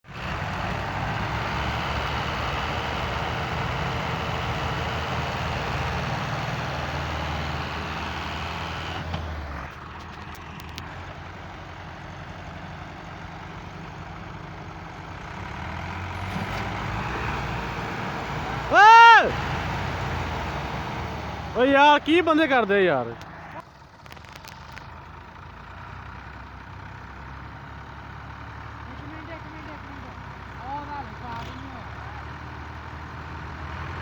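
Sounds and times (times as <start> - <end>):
tractor engine running: 0.1 - 34.0.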